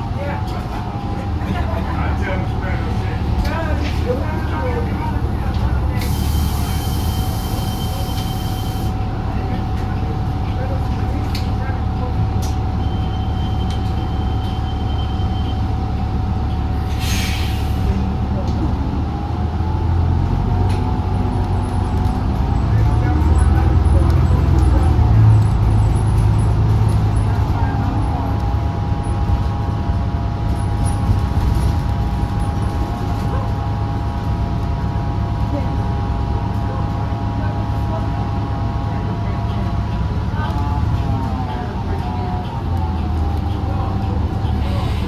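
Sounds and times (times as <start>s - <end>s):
bus low rumble and whine: 0.0s - 45.0s.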